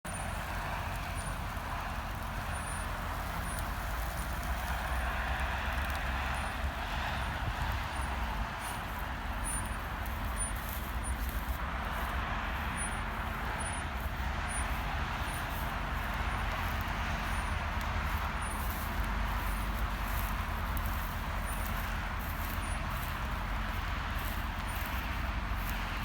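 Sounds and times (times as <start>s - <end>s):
engine rumble: 0.0s - 26.0s
tyres on rough ground: 0.0s - 26.0s.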